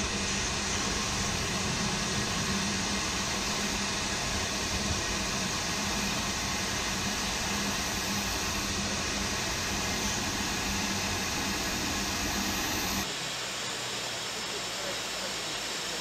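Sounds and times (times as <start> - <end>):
steam locomotive hissing: 0.0 - 13.1.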